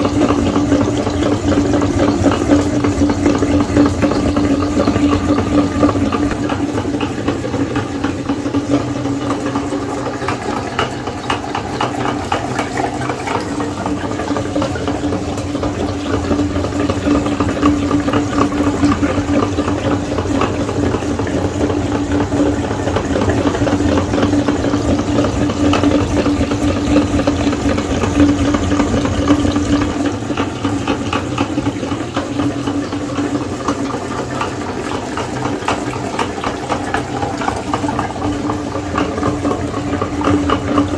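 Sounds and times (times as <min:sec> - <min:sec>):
meat grinder motor hum: 0:00.0 - 0:40.9.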